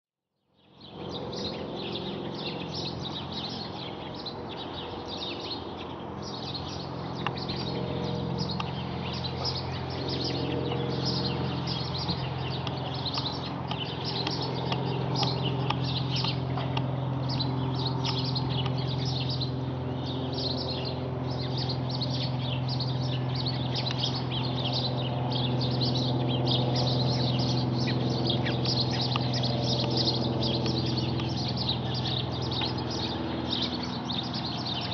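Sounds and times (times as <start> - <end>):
propeller aircraft droning: 0.6 - 34.9
small birds chirping: 0.6 - 34.9.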